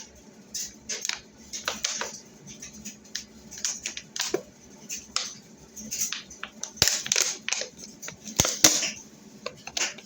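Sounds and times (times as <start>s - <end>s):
handling clicks and crinkles: 0.6s - 10.0s.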